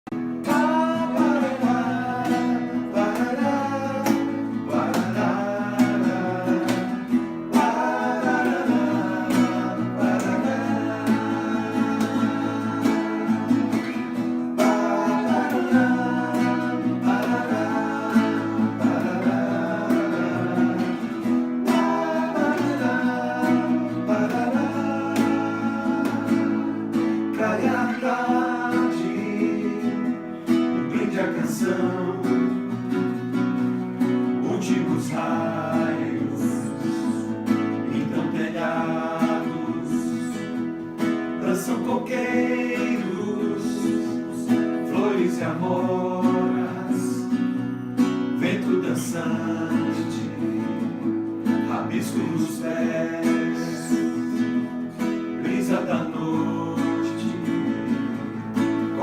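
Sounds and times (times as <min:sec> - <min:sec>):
acoustic guitar strumming: 0:00.1 - 0:59.0.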